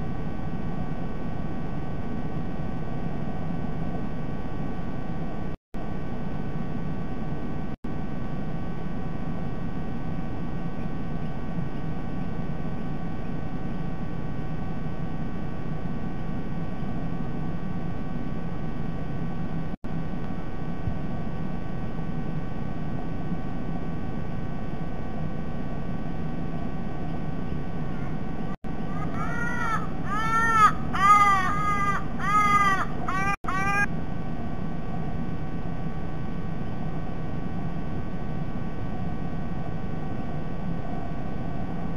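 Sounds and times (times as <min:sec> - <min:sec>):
faint electrical whine: 0:00.0 - 0:41.9.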